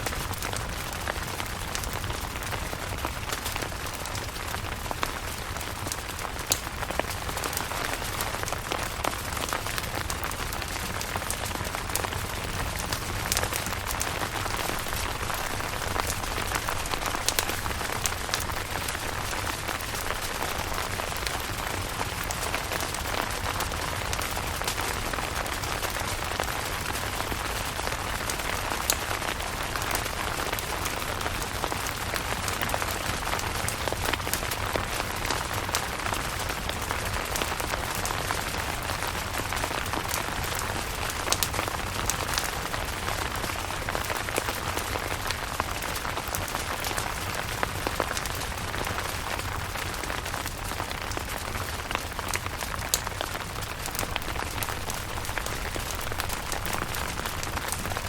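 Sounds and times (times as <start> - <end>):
rain pattering on a tent: 0.0 - 58.0.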